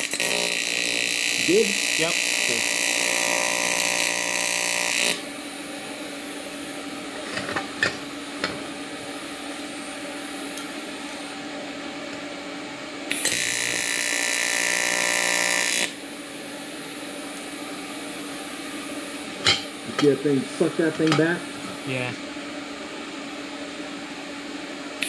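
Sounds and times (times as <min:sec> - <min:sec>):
welding arc buzzing: 0:00.0 - 0:11.4, 0:13.0 - 0:22.2
steady low hum: 0:00.0 - 0:13.8, 0:15.9 - 0:25.0.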